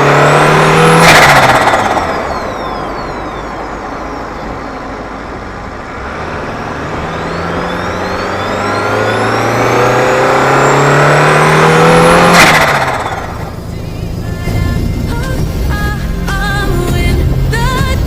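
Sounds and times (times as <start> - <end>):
turbocharged car engine accelerating: 0.0 - 17.6.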